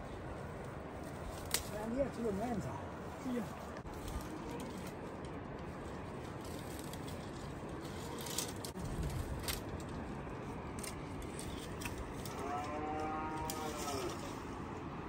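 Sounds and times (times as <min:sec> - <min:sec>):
rustling in dry scrub: 0:00.0 - 0:15.0
dry branches cracking: 0:00.6 - 0:14.9.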